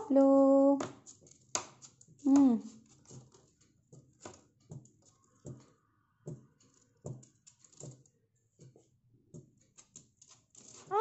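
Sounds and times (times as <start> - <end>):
bird claws and beak tapping tabletop: 0.8 - 11.0.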